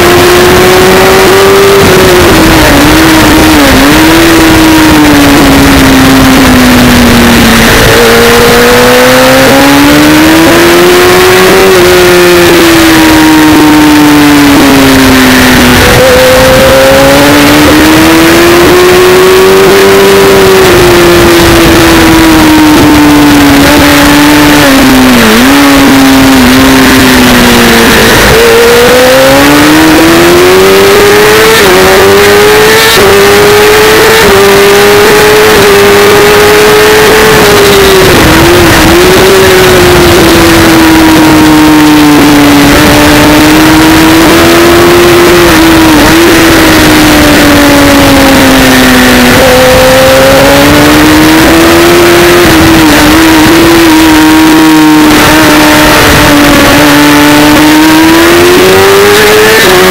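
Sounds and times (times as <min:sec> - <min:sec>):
gear upshifts: 0:00.0 - 0:59.9
racing motorcycle engine revving: 0:00.0 - 0:59.9
wind rush over microphone: 0:00.0 - 0:59.9.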